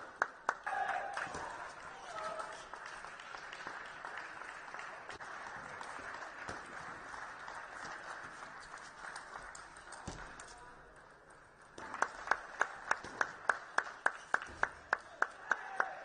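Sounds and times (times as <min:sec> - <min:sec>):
spectators applauding: 0:00.0 - 0:10.8, 0:11.7 - 0:16.0.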